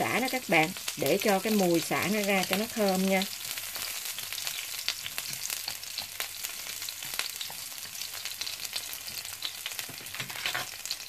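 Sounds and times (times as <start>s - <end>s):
lemongrass sizzling in oil: 0.0s - 11.0s.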